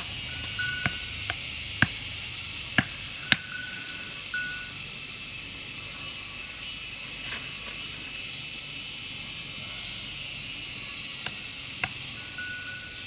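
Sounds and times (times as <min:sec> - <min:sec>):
high outdoor hiss: 0:00.0 - 0:13.0.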